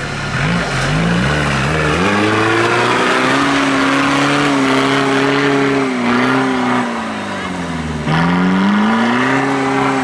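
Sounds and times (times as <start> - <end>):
tractor engine revving high: 0.0 - 10.0.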